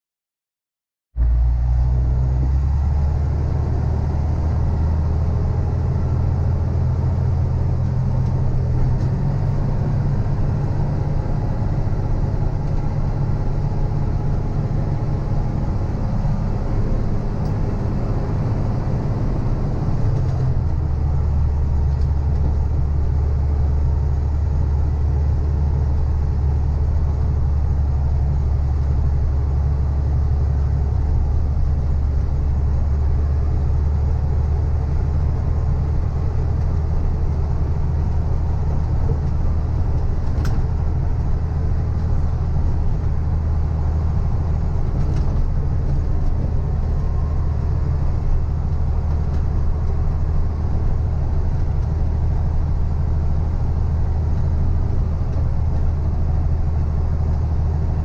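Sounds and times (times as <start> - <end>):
diesel engine rumbling: 1.2 - 58.0.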